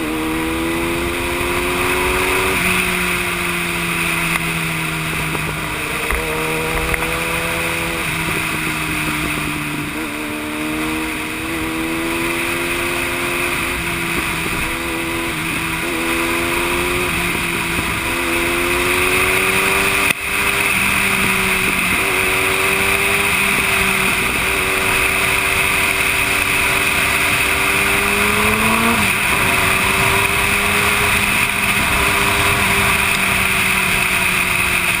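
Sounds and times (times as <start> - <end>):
motorcycle engine running: 0.0 - 35.0
wind noise: 0.0 - 35.0.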